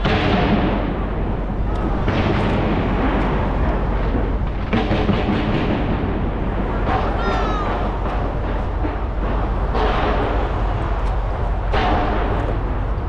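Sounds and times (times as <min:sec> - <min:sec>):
fireworks bursting and crackling: 0:00.0 - 0:12.7.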